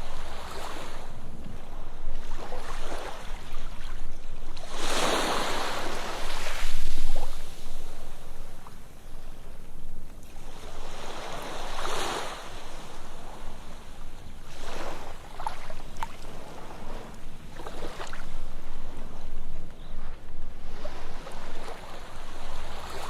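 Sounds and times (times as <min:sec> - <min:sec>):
ocean waves breaking on beach: 0:00.0 - 0:23.0.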